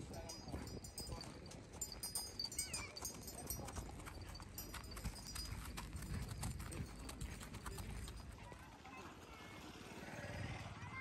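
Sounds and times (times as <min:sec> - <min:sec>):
hooves clopping on dirt: 0:00.0 - 0:09.6.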